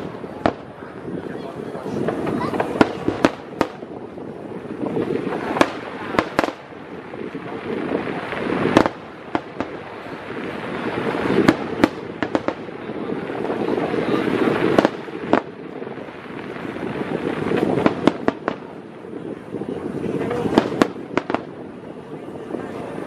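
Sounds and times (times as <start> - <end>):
fireworks bursting with bangs: 0.0 - 23.0
steady rushing noise: 0.0 - 23.0.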